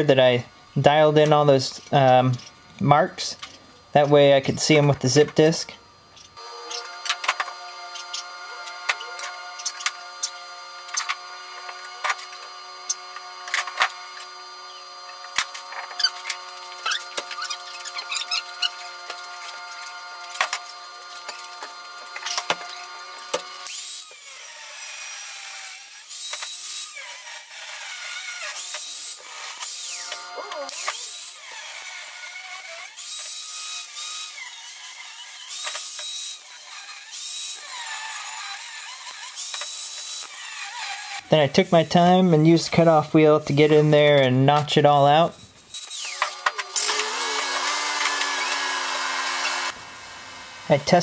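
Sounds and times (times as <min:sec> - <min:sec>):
angle grinder cutting steel: 0:06.2 - 0:51.0.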